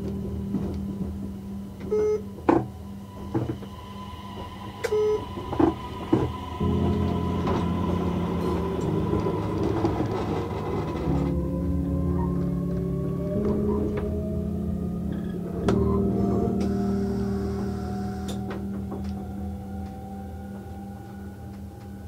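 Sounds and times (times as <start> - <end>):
organ-like music chords: 0.0 - 22.0
train running hum: 0.0 - 22.0.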